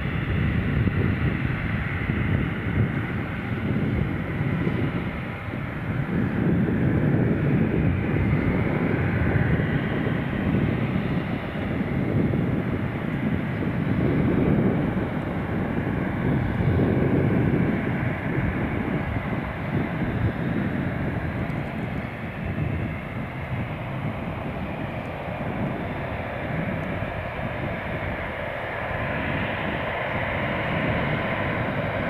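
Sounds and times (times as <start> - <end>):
jet engines taxiing rumble: 0.0 - 32.0.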